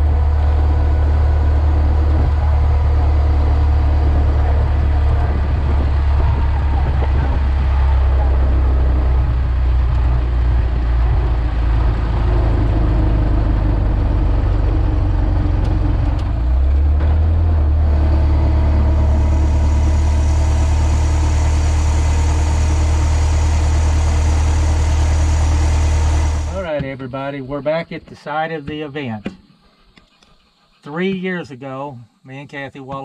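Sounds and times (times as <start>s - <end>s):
car engine droning: 0.0s - 27.7s.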